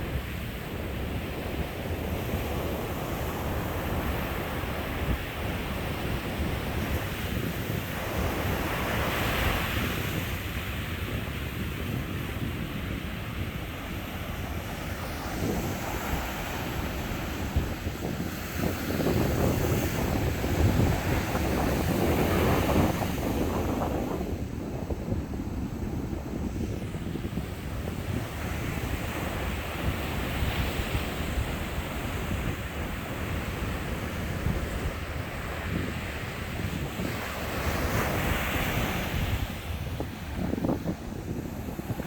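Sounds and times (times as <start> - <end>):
sea waves breaking on beach: 0.0 - 42.0
wind buffeting microphone: 0.0 - 42.0.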